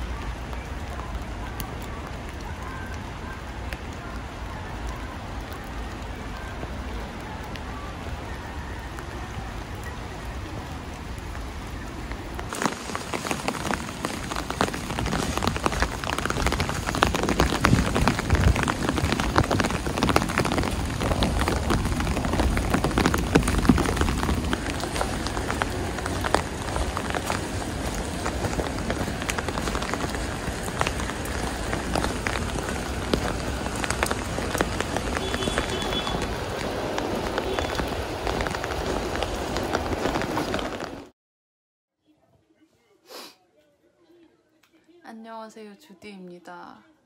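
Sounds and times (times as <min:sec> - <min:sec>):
rain hitting umbrella: 0:00.0 - 0:41.1
steady rain hiss: 0:00.0 - 0:41.1.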